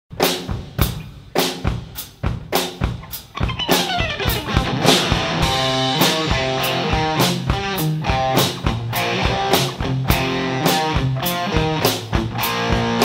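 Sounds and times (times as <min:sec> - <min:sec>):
drum kit hits: 0:00.1 - 0:13.0
live rock band: 0:00.1 - 0:13.0.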